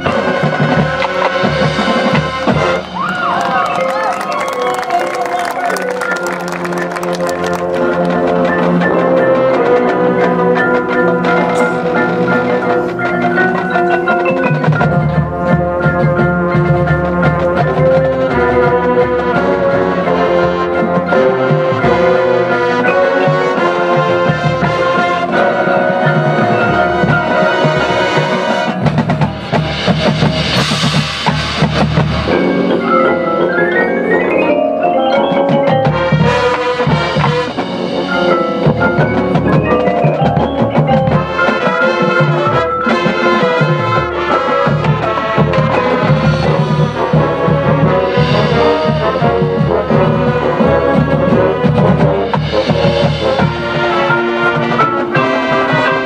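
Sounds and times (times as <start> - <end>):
drums: 0.0 - 56.0
marching band brass: 0.0 - 56.0
marimbas: 0.0 - 56.0.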